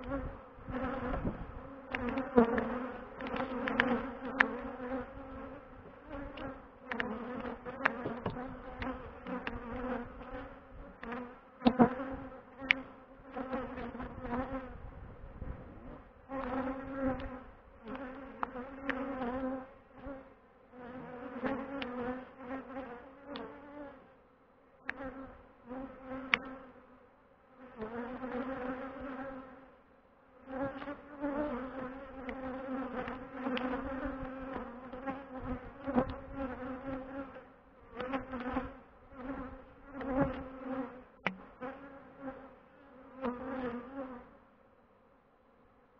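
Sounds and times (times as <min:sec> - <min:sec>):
bees buzzing: 0:00.0 - 0:14.8, 0:15.8 - 0:24.1, 0:24.8 - 0:27.0, 0:30.4 - 0:44.4.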